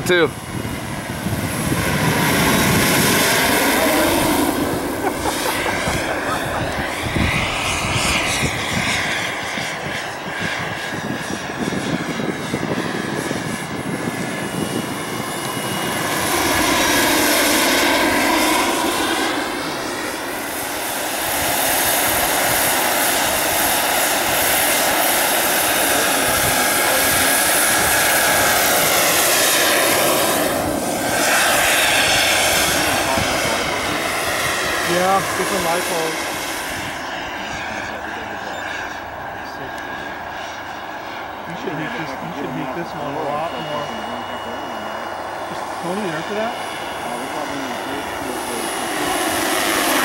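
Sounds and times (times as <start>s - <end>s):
model helicopter rotor whine: 0.0s - 50.0s.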